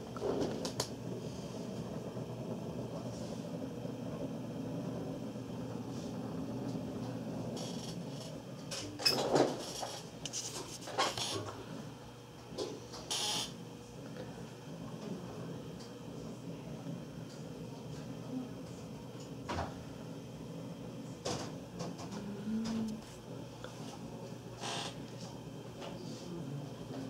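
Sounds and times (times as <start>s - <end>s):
computer fans whirring: 0.0s - 27.0s.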